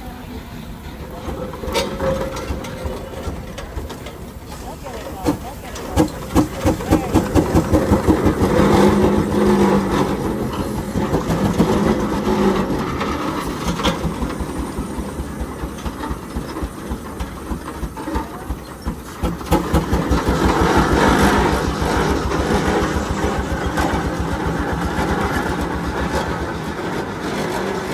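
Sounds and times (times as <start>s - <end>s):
steam engine exhaust chuffing: 0.0s - 27.9s.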